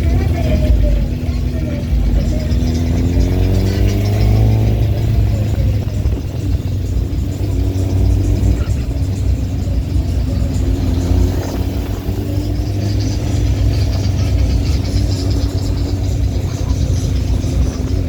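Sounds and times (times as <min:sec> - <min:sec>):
car engines running: 0:00.0 - 0:18.0.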